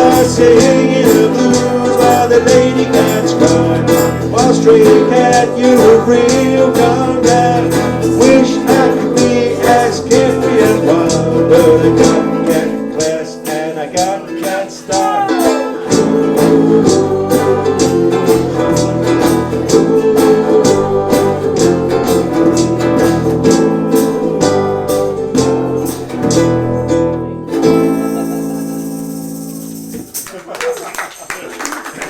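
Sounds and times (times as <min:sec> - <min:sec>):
steady drum beat: 0:00.0 - 0:13.2, 0:13.9 - 0:26.5
bass: 0:00.0 - 0:30.2
guitar: 0:00.0 - 0:30.4.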